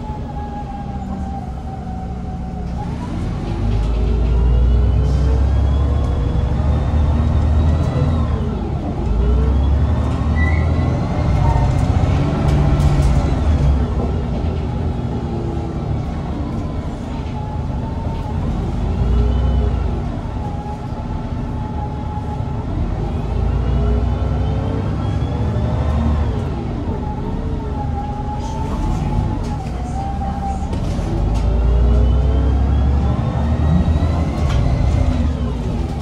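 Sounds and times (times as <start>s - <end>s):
bus drivetrain whine: 0.0s - 36.0s
bus engine rumble: 0.0s - 36.0s.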